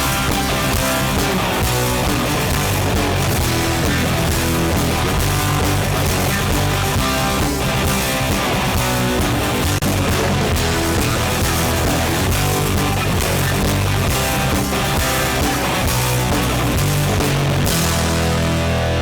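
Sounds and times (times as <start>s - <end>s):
bass guitar: 0.0s - 19.0s
distorted electric guitars: 0.0s - 19.0s
drums: 0.0s - 19.0s.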